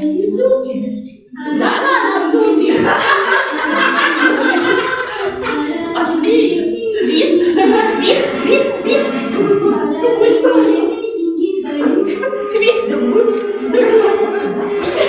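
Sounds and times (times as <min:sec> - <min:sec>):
music: 0:00.0 - 0:15.0
people talking: 0:00.0 - 0:15.0
people laughing: 0:01.5 - 0:15.0.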